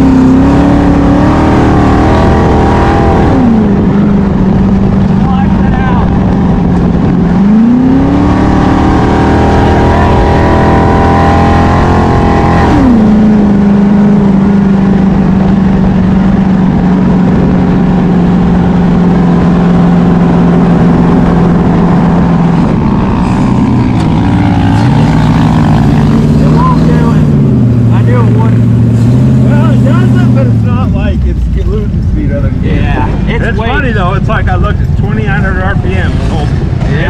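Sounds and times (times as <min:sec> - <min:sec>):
engine revving under load: 0:00.0 - 0:37.0.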